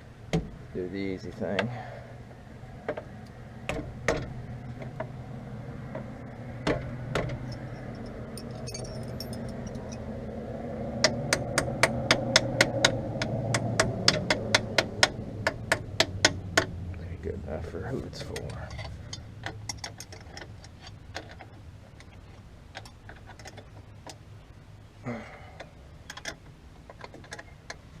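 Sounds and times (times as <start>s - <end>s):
low hum: 0.0s - 26.3s.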